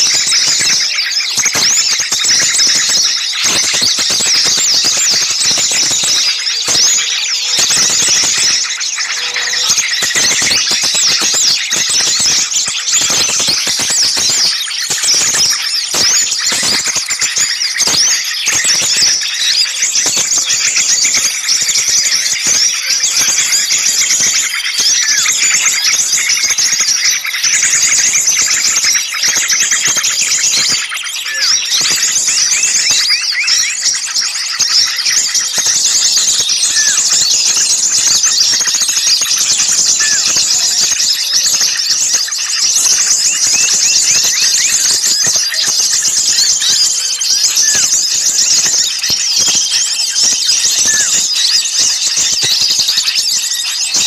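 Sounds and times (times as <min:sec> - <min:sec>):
chorus of small songbirds: 0:00.0 - 0:54.0.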